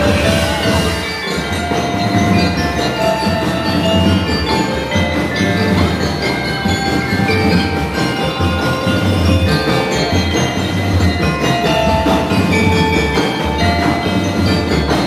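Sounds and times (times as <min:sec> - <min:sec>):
bell lyres playing melody: 0:00.0 - 0:15.0
marching bass and snare drums: 0:00.0 - 0:15.0.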